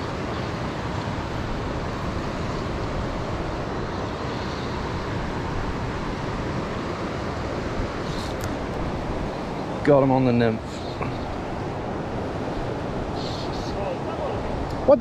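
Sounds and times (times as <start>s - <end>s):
fast river water rushing: 0.0s - 15.0s.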